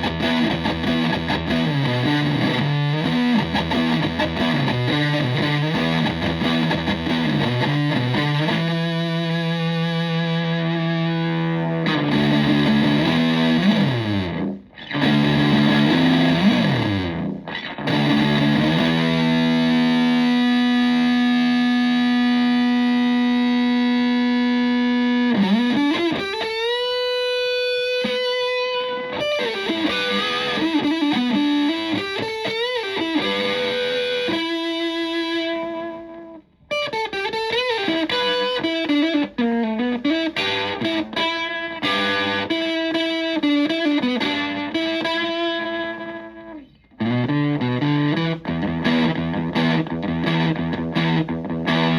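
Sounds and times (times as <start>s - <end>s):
fuzzy electric guitar riffs: 0.0s - 51.9s.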